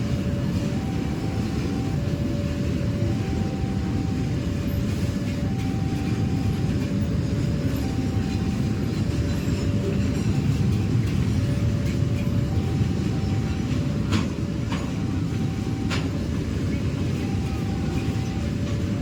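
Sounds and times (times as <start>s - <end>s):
freight train rumbling on rails: 0.0s - 19.0s
two-tone warning alarm: 0.0s - 19.0s.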